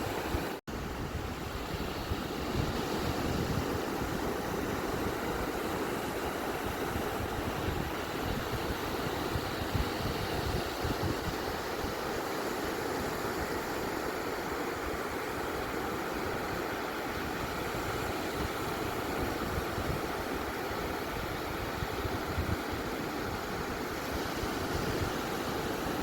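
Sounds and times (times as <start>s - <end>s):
waves washing on shore: 0.0s - 26.0s.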